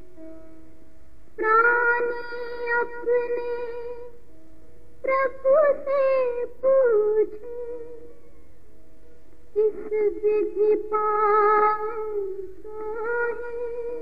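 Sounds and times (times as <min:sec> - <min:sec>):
soft musical backing: 0:00.0 - 0:14.0.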